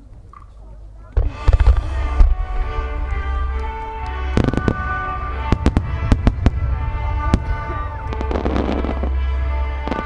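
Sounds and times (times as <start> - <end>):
music with long held notes: 1.1 - 10.0
fireworks bursting: 1.2 - 10.0.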